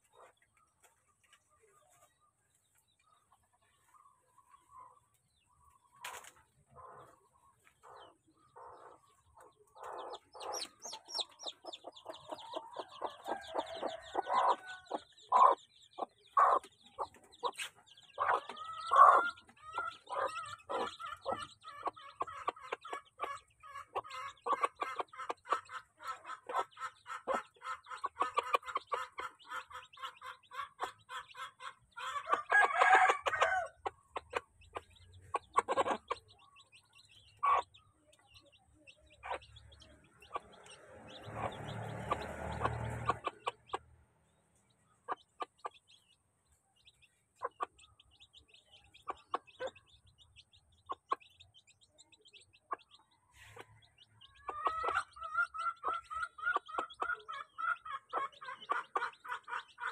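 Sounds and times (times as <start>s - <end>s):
hen clucking: 0.0s - 0.5s, 2.7s - 44.0s, 44.6s - 59.9s
chicks peeping: 0.0s - 59.9s.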